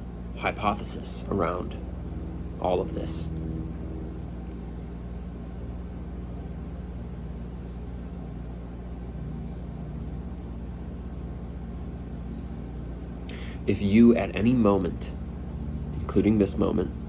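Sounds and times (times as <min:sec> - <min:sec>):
low background hum and rumble: 0:00.0 - 0:17.0.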